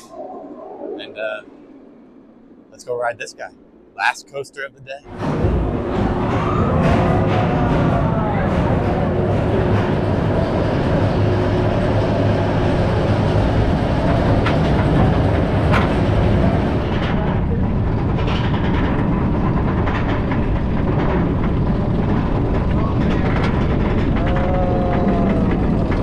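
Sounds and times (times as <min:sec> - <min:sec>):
roller coaster train rumbling: 0:00.0 - 0:26.0.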